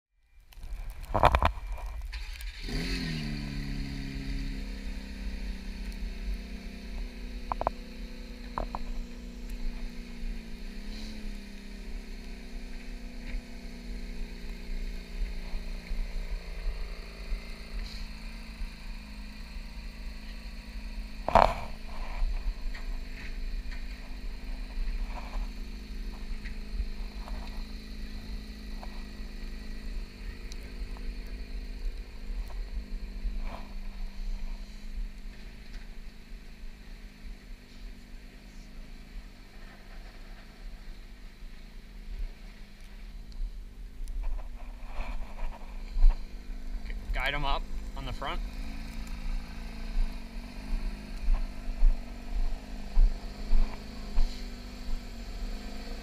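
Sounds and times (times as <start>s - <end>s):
car engine idling: 0.2s - 56.0s.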